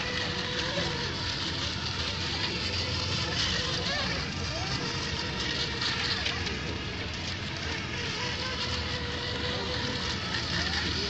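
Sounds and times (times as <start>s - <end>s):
model boat motors whining: 0.0s - 11.0s.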